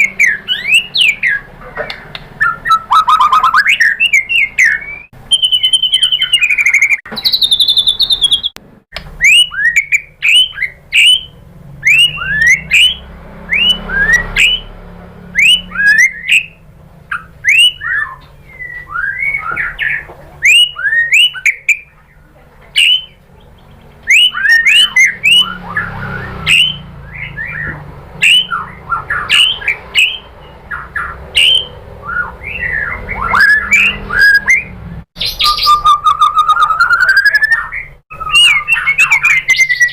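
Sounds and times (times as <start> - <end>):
bird singing sharp descending notes: 0.0 - 1.6, 2.4 - 39.9.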